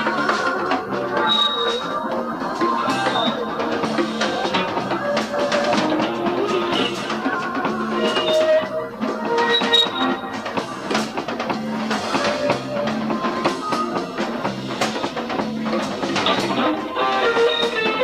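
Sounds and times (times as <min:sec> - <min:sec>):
bass guitar: 0:00.0 - 0:18.0
drum kit beat: 0:00.0 - 0:18.0
guitar melody: 0:00.0 - 0:18.0.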